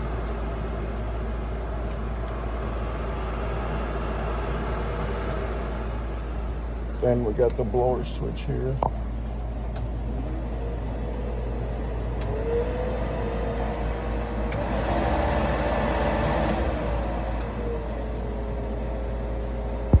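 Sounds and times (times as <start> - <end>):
car heater blower whining: 0.0 - 20.0.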